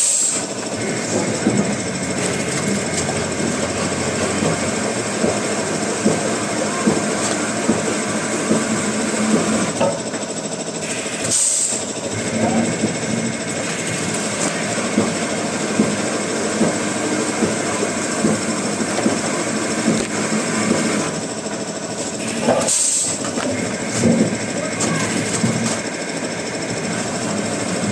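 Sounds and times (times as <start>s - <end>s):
wood-processing machinery running: 0.0s - 27.9s.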